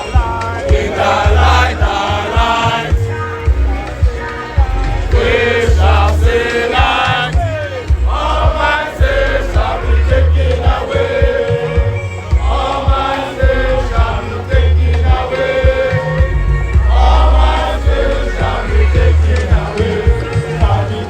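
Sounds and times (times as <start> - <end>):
group of voices singing: 0.0 - 21.0
heavy bass: 0.0 - 21.0
steady drum beat: 0.0 - 21.0.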